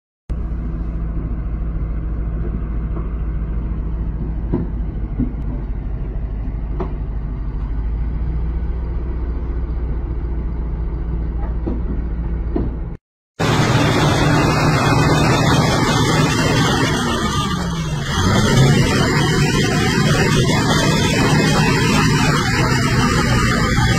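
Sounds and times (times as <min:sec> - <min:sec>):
bulldozer diesel engine running: 0:00.3 - 0:23.9.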